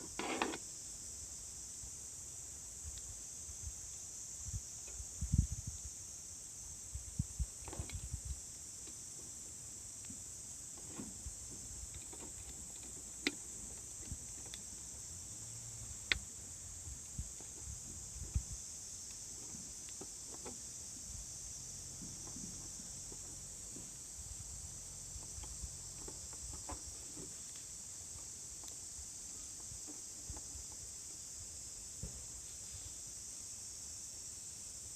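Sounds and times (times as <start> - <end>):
insects chirping: 0.0 - 34.9.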